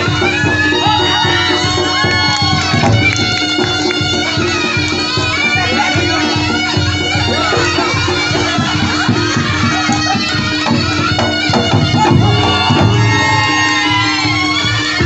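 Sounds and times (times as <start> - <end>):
reed shawm melody: 0.0 - 15.0.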